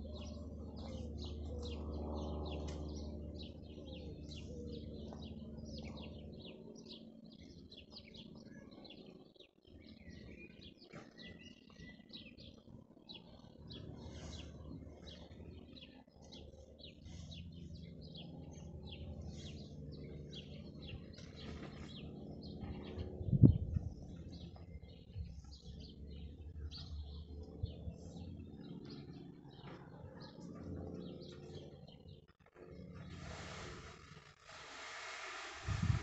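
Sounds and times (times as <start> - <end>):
small birds chirping: 0.0 - 34.5.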